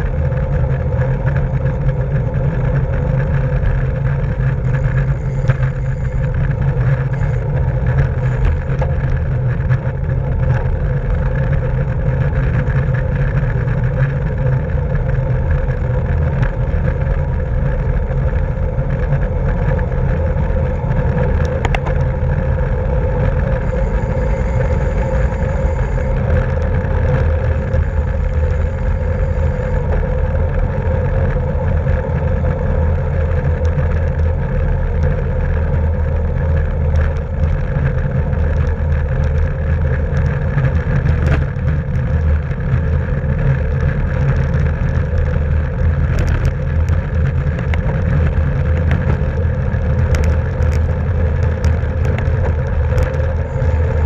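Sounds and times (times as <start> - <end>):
bicycle tyre and drivetrain noise: 0.0 - 54.0
wind buffeting microphone: 0.0 - 54.0.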